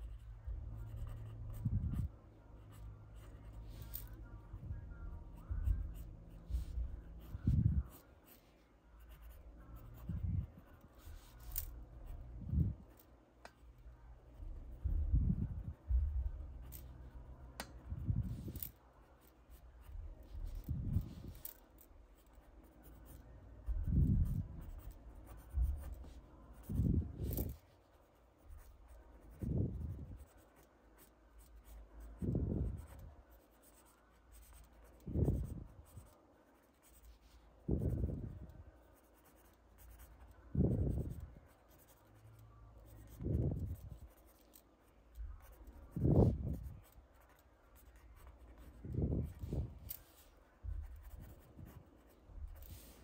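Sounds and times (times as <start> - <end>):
pencil scratching on paper: 0.0 - 4.2, 5.4 - 13.1, 14.3 - 42.0, 43.0 - 53.0.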